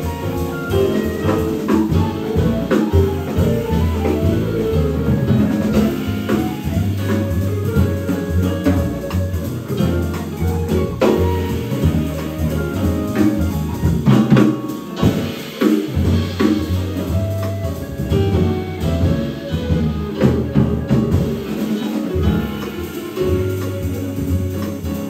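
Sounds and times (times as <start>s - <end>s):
bass line: 0.0s - 25.0s
drum kit strokes: 0.0s - 25.0s
piano: 0.0s - 25.0s.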